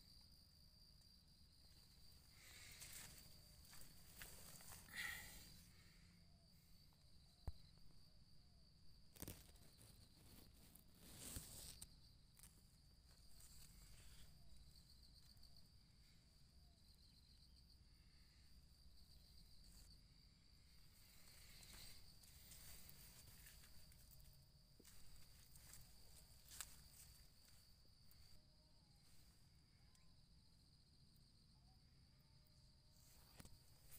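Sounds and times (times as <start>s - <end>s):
high insect trill: 0.0s - 33.9s.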